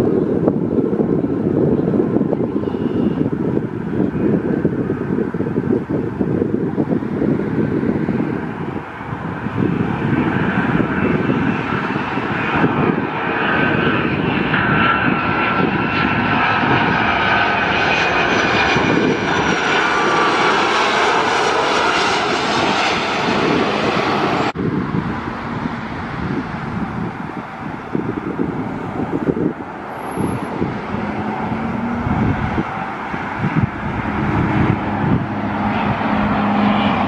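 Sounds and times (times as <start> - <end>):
jet engine whine: 0.0 - 37.0
jet engines rumbling: 0.0 - 37.0.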